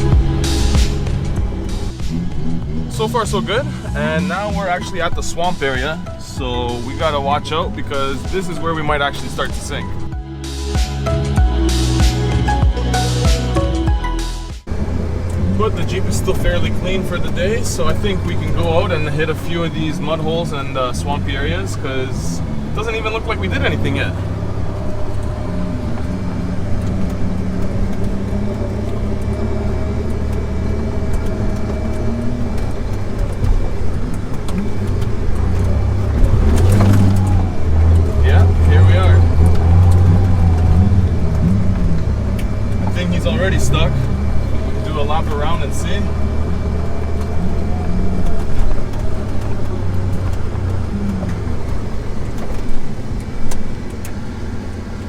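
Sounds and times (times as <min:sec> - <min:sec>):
car engine running while driving: 0:00.0 - 0:55.0.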